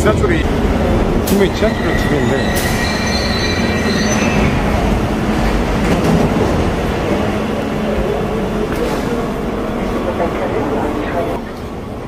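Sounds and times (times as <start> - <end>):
underground train rumbling: 0.0 - 12.0.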